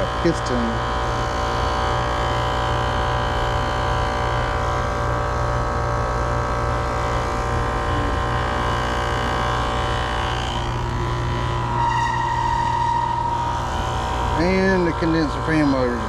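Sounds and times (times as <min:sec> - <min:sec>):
air conditioner unit humming: 0:00.0 - 0:16.0.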